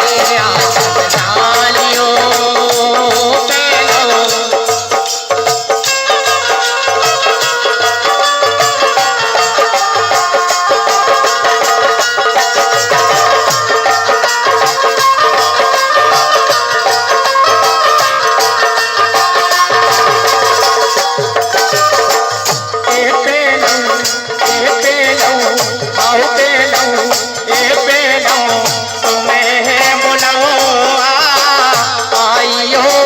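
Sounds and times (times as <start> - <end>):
rattling percussion: 0.0 - 33.0
steady drum beat: 0.0 - 33.0.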